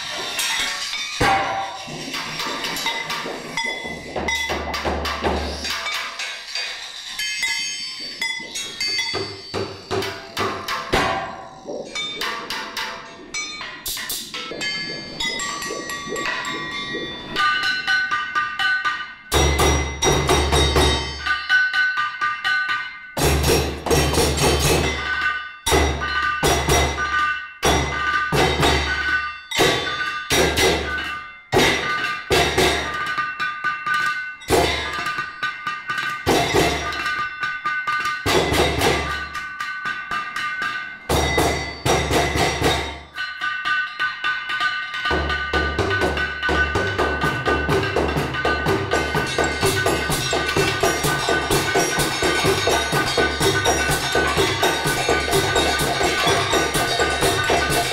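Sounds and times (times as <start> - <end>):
percussion on hammers and tools: 0.0 - 57.9.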